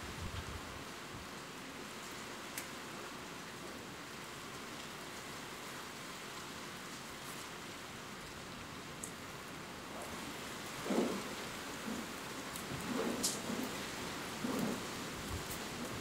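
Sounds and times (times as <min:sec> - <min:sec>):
steady rain in forest: 0:00.0 - 0:16.0.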